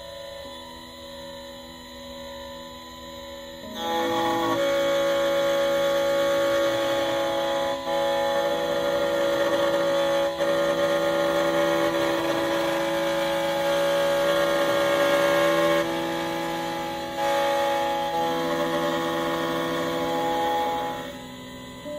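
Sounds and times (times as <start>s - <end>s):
key cutting machine motor whine: 0.0s - 21.9s.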